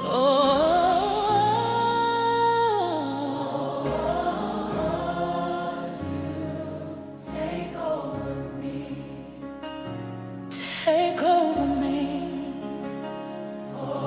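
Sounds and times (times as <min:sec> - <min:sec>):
slow worship ballad music: 0:00.0 - 0:14.0
soft wordless choir voices: 0:00.0 - 0:14.0.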